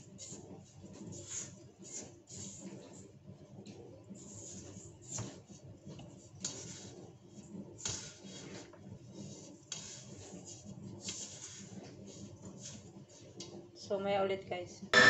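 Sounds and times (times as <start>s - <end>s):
hands rubbing dough in metal bowl: 0.0s - 14.0s.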